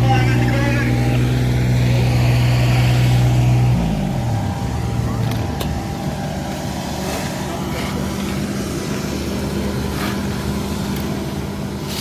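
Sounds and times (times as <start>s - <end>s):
paving machine engine: 0.0s - 12.0s.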